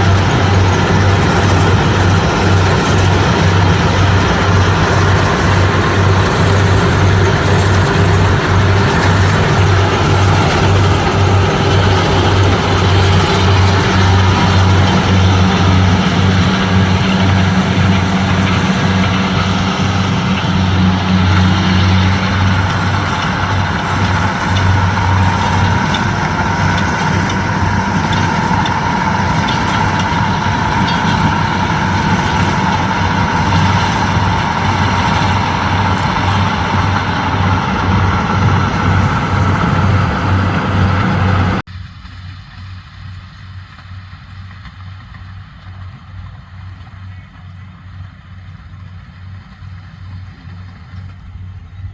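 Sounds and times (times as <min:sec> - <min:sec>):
harvester engine pulsing hum: 0:00.0 - 0:51.9.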